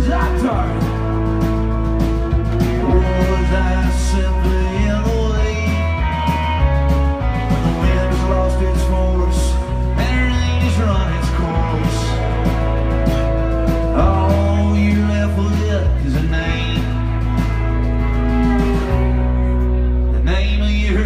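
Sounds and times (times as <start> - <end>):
steady drum beat: 0.0 - 19.5
bass notes: 0.0 - 21.0
electric guitar: 0.0 - 21.0
strummed acoustic guitar: 0.0 - 21.0.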